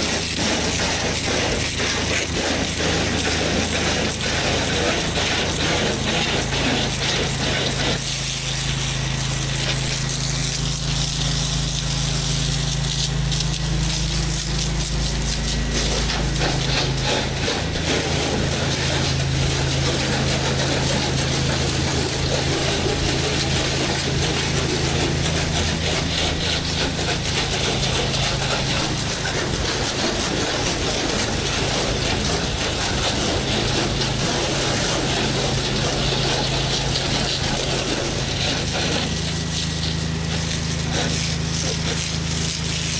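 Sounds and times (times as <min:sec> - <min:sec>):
high-pressure water spray hiss: 0:00.0 - 0:42.9
pressure washer engine running: 0:00.0 - 0:42.9.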